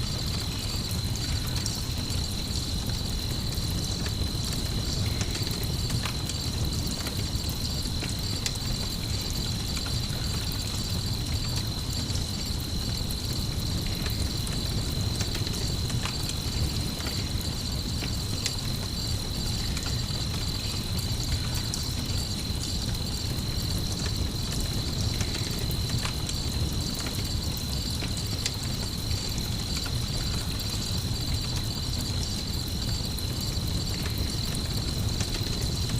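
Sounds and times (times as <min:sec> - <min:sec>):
campfire crackling: 0:00.0 - 0:35.9
crickets chirring: 0:00.0 - 0:35.9.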